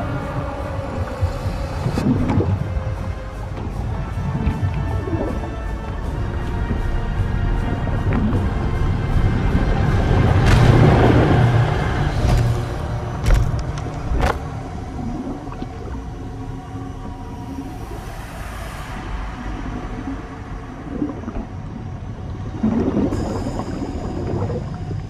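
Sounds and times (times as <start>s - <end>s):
low steady rumble: 0.0s - 25.0s
quiet sustained music: 0.0s - 25.0s.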